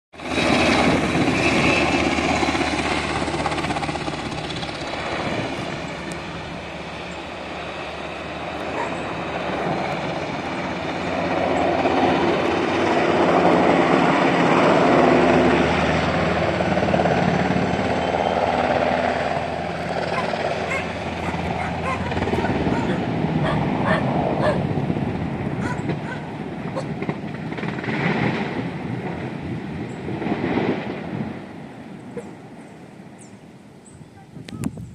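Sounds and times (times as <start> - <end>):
helicopter flying low overhead: 0.1 - 34.9.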